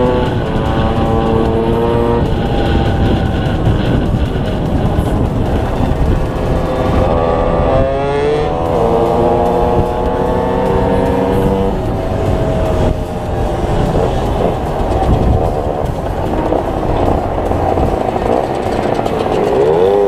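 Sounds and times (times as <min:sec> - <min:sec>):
two-stroke engine buzzing: 0:00.0 - 0:20.0.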